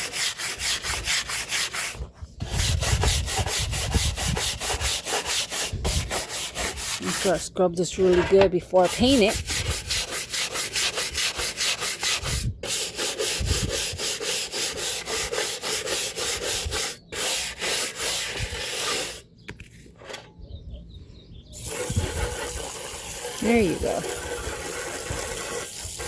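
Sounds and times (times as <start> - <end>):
hand scrubbing strokes: 0.0 - 7.5, 8.8 - 19.2, 21.6 - 26.0.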